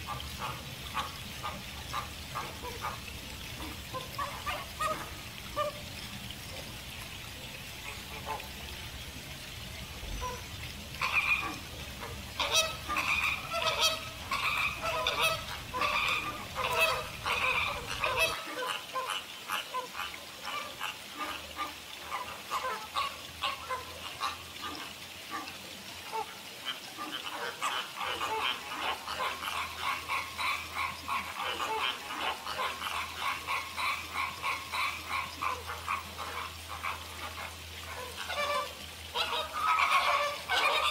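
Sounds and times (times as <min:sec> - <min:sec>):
flamingos honking: 0:00.0 - 0:06.7, 0:10.1 - 0:25.5, 0:26.1 - 0:40.9.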